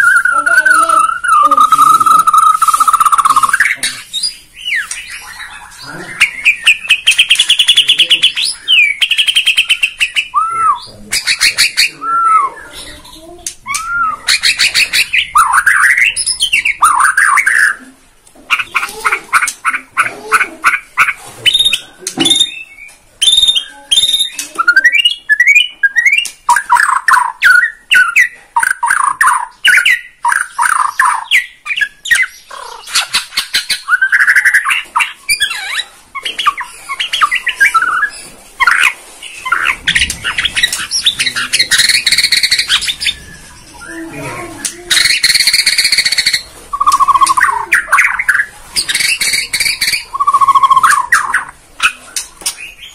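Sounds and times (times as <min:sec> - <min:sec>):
bird singing whistles and chatter: 0:00.0 - 0:17.8, 0:21.0 - 0:52.9.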